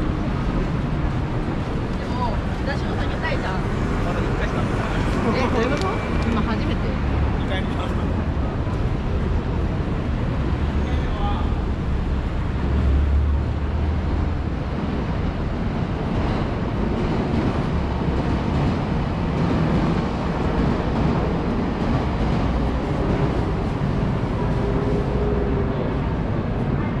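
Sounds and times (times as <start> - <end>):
train rumbling past: 0.0 - 27.0.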